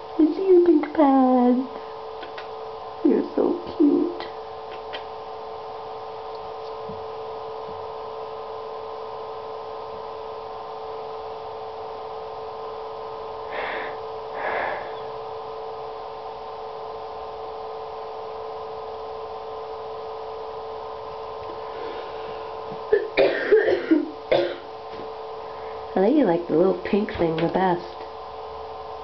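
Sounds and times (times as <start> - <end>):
steady hum of even tones: 0.0 - 29.0.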